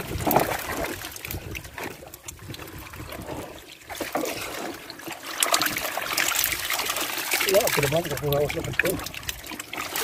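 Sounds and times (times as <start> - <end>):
water trickling and dripping: 0.0 - 10.0.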